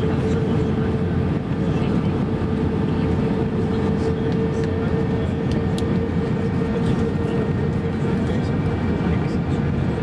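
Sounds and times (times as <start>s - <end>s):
airplane cabin engine drone: 0.0s - 10.0s.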